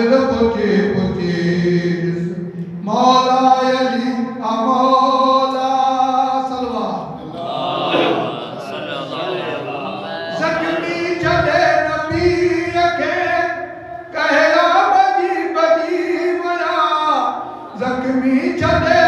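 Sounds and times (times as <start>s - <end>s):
man singing into a microphone: 0.0s - 7.1s, 10.3s - 19.0s.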